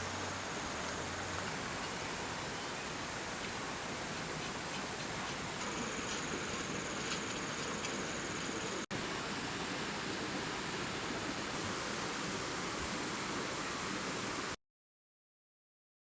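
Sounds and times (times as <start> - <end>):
water rushing: 0.0 - 14.6.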